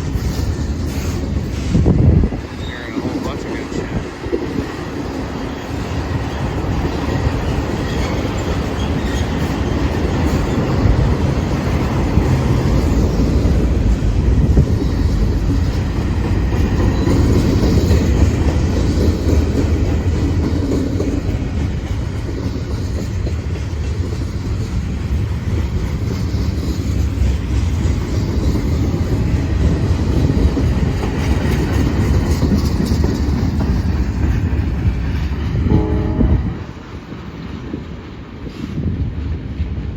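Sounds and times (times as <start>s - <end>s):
wheels clacking over rails: 0.0s - 38.5s
freight train rumbling past: 0.0s - 39.9s.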